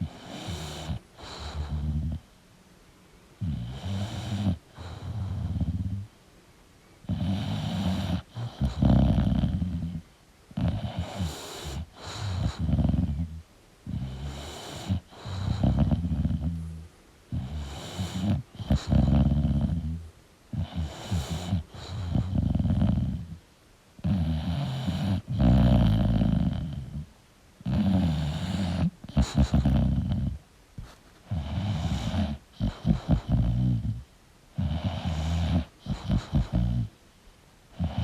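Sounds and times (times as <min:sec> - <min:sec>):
dog snoring: 0:00.0 - 0:02.3, 0:03.4 - 0:06.1, 0:07.0 - 0:23.4, 0:24.0 - 0:30.4, 0:31.2 - 0:37.0, 0:37.7 - 0:38.0.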